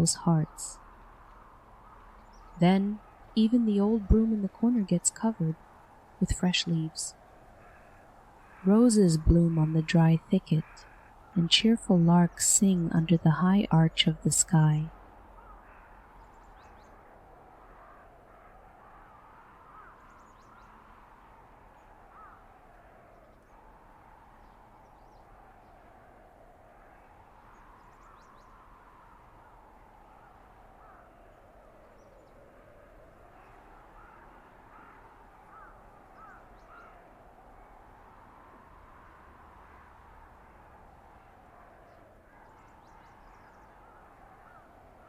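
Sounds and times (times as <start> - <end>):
wind howling: 0.0 - 45.0.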